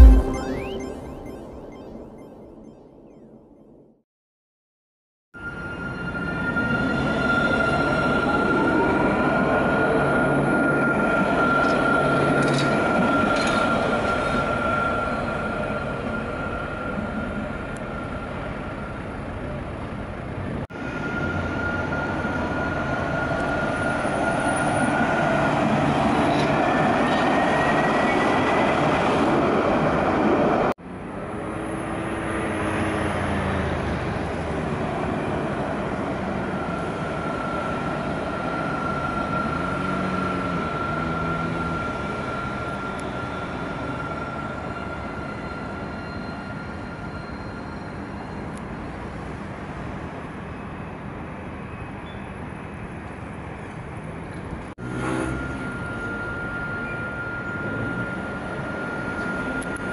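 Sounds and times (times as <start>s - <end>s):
electric tram whine: 5.4s - 59.9s.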